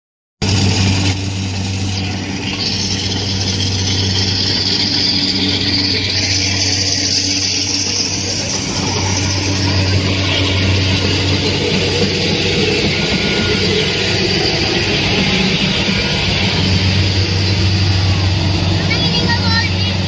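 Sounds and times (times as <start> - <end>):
combine harvester engine hum: 0.4 - 20.0
high whirring: 0.4 - 20.0.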